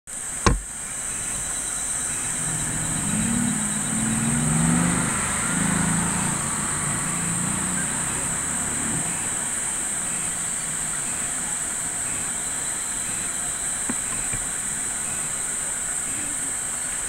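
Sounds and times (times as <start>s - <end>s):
constant high hiss: 0.1s - 17.0s.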